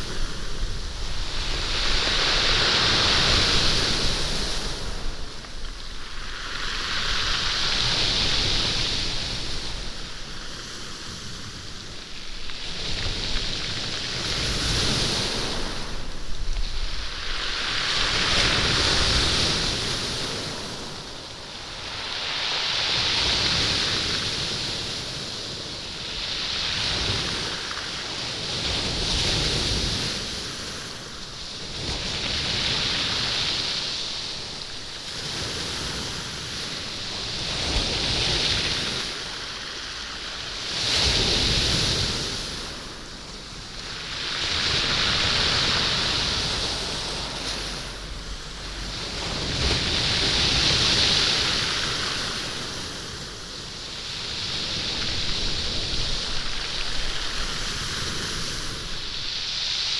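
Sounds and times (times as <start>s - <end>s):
waves rattling beach stones: 0.0s - 59.9s.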